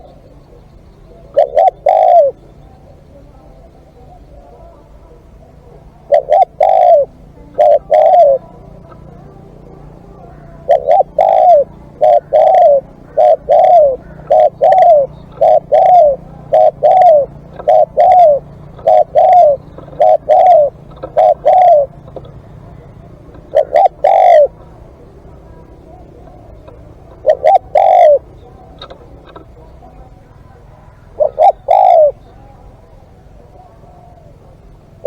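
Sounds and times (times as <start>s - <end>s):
dove cooing: 0.0s - 35.0s.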